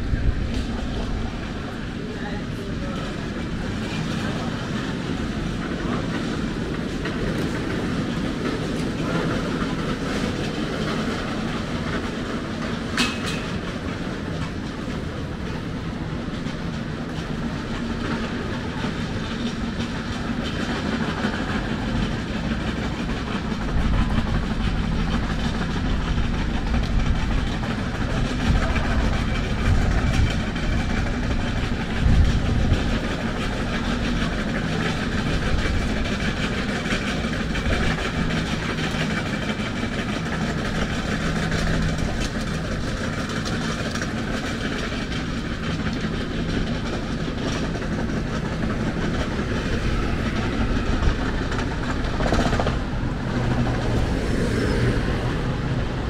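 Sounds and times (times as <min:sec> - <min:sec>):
street traffic: 0:00.0 - 0:56.0.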